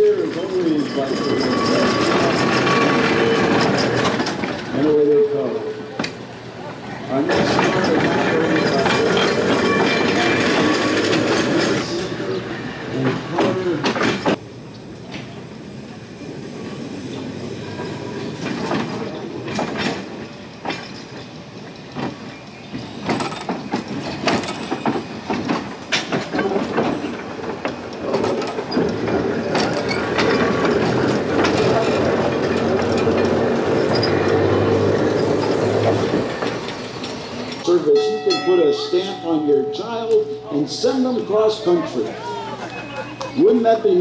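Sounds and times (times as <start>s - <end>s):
tram wheels clicking over rail joints: 0.0s - 37.8s.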